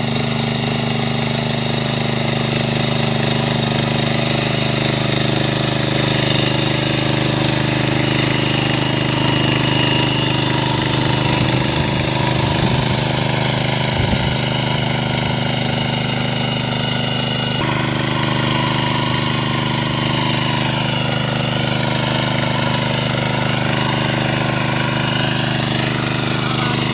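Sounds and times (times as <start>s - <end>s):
power tiller engine running: 0.0s - 26.9s
tines churning dry soil: 0.0s - 26.9s.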